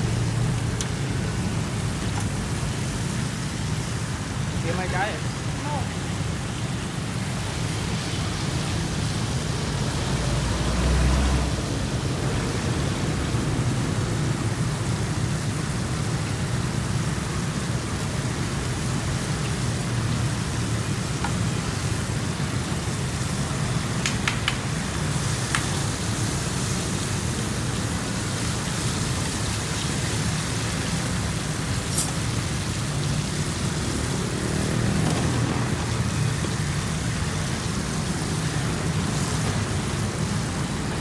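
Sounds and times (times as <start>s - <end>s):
food deep-frying in oil: 0.0s - 41.0s.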